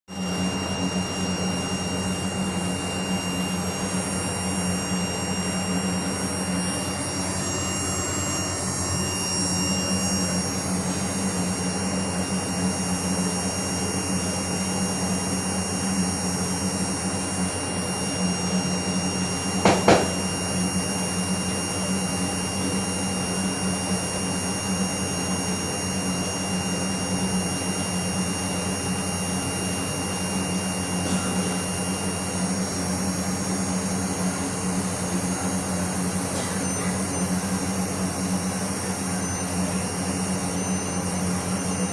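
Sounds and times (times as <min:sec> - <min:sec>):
monitor humming: 0:00.1 - 0:22.8, 0:26.3 - 0:41.9
high-pitched whine: 0:00.1 - 0:41.9.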